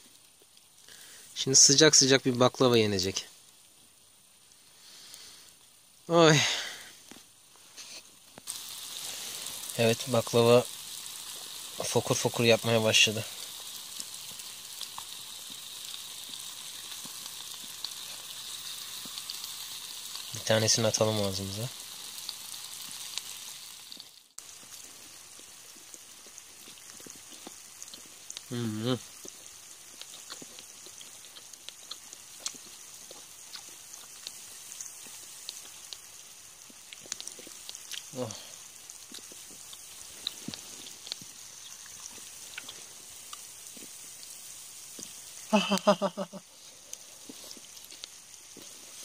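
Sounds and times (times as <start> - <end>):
steady hiss: 0.0 - 49.0
syrup sizzling and bubbling: 0.0 - 49.0.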